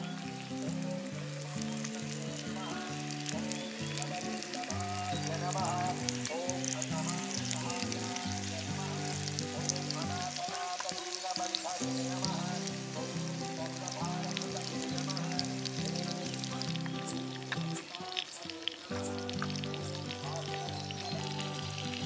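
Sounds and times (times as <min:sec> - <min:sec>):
background music: 0:00.0 - 0:22.0
chicken sizzling in hot oil: 0:00.0 - 0:22.0.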